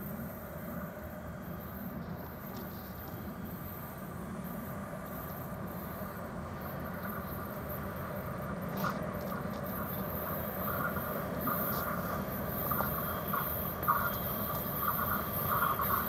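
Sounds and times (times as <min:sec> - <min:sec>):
high-pitched train tone: 0:00.0 - 0:16.0
train rumble: 0:00.0 - 0:16.0.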